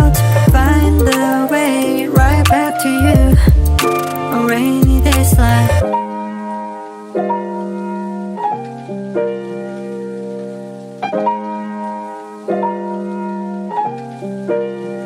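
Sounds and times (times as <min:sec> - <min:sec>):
sustained piano chords: 0:00.0 - 0:15.0.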